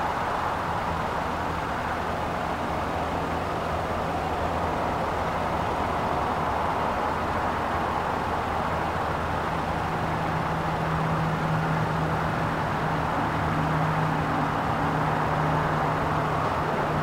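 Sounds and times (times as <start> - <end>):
jet engines at low power: 0.0 - 17.0.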